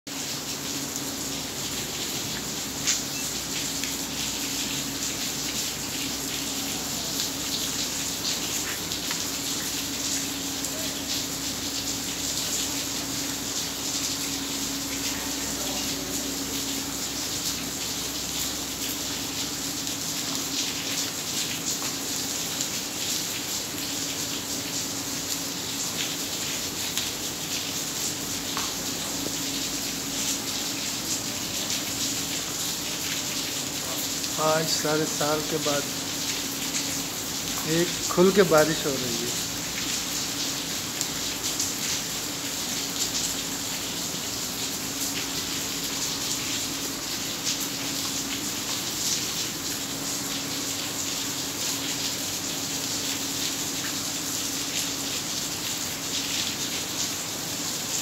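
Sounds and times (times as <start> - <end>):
heavy rain splashing into water: 0.1 - 58.0.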